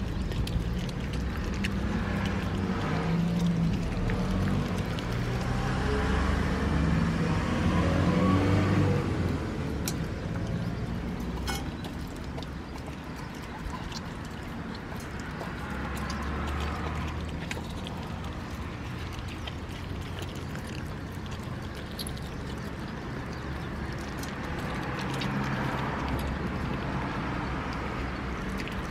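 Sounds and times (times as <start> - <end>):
dog chewing meat: 0.0 - 28.9.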